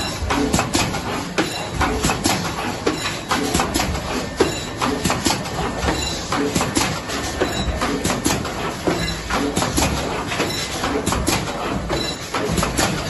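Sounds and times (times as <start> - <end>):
box wrapping machine clattering: 0.0 - 13.0.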